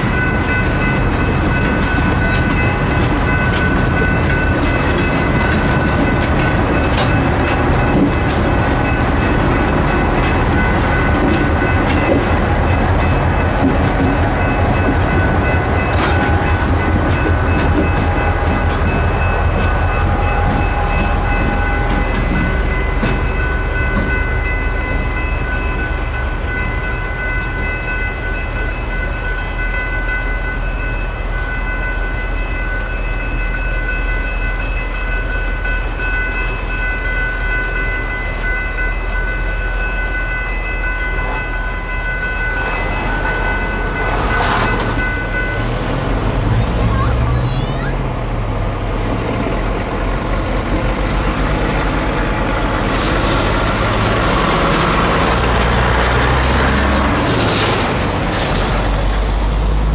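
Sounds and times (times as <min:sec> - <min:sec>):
crossing bells ringing: 0:00.0 - 0:59.9
train wheels clacking and rumbling: 0:00.0 - 0:59.9.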